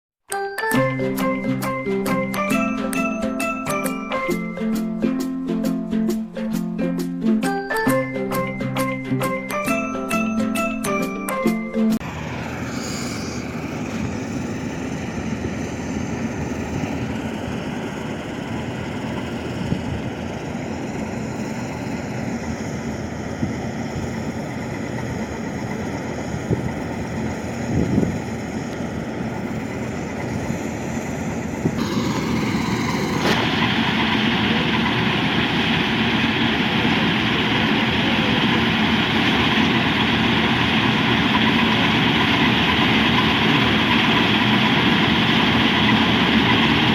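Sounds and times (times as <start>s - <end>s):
combine harvester running: 0.6s - 46.9s.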